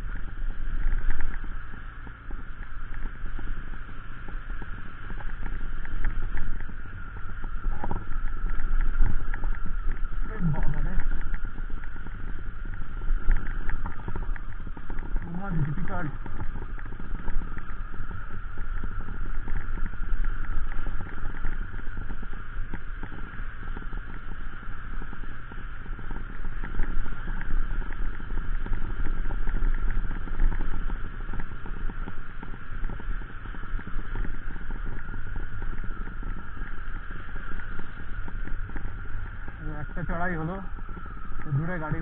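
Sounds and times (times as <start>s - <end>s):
deep steady rumble: 0.0s - 42.0s.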